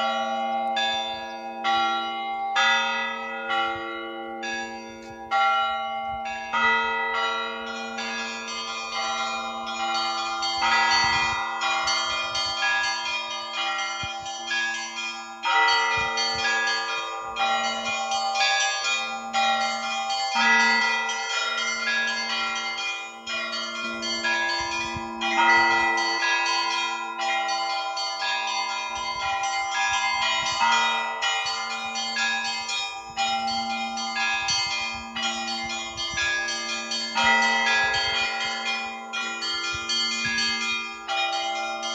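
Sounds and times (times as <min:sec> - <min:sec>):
low church bell: 0:00.0 - 0:41.9
smaller higher bells pealing: 0:00.0 - 0:41.9.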